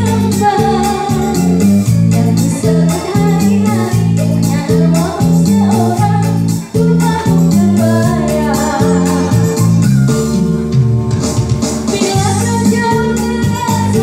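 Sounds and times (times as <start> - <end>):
woman singing into microphone: 0.0 - 9.8, 11.9 - 14.0
karaoke backing track: 0.0 - 14.0.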